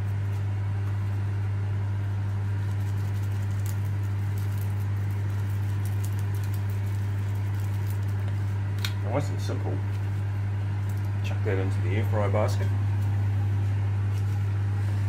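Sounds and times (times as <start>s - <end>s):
low hum: 0.0s - 15.0s
seasoning patters: 0.0s - 15.0s.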